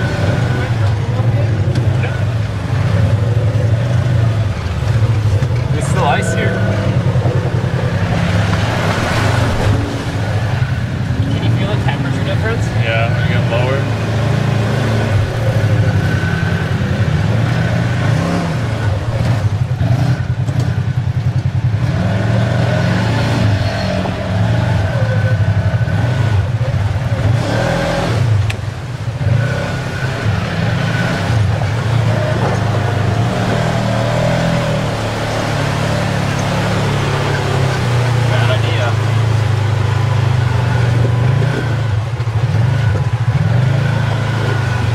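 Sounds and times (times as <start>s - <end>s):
utility vehicle engines revving: 0.0s - 44.9s.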